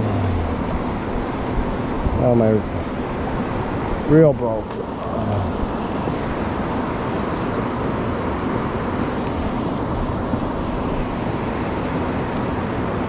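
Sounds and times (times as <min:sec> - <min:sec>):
river water running over rocks: 0:00.0 - 0:13.0.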